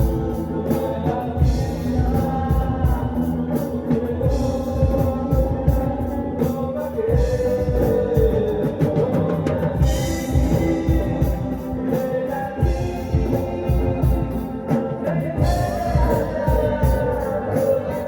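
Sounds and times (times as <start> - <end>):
drum kit beat: 0.0 - 18.0
rock band playing live: 0.0 - 18.0
sustained guitar chords: 0.0 - 18.0.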